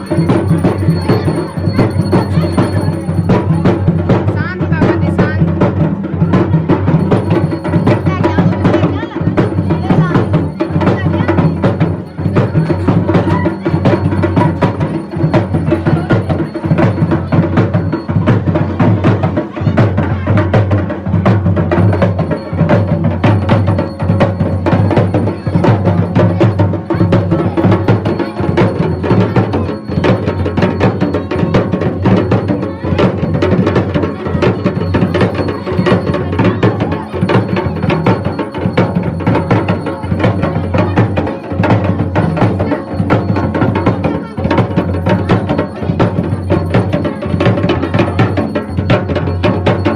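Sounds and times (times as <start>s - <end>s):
folk drumming: 0.0s - 49.9s.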